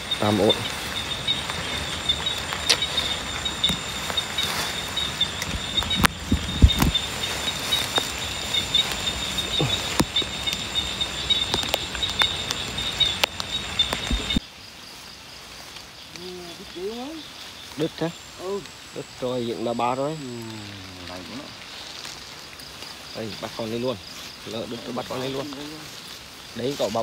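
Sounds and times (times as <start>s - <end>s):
night insects buzzing: 0.0s - 27.0s.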